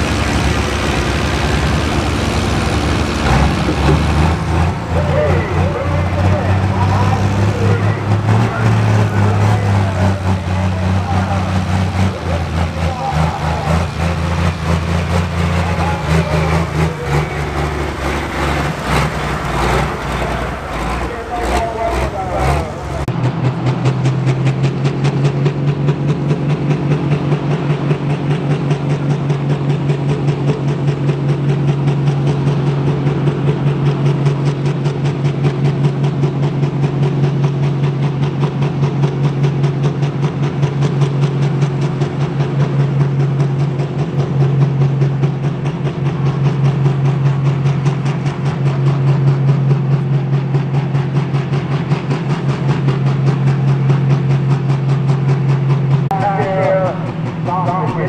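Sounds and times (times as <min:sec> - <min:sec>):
diesel engine droning at high idle: 0:00.0 - 0:58.0.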